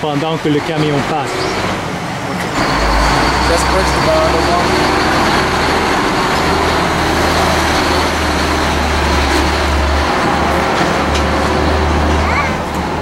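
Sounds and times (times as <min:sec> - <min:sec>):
road noise: 0:00.0 - 0:13.0
truck engine drone: 0:00.0 - 0:13.0.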